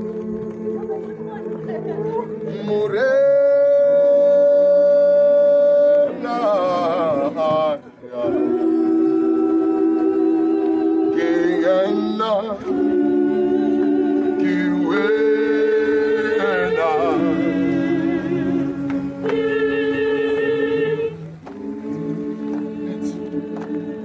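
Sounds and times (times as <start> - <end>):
choir singing unaccompanied: 0.0 - 24.0.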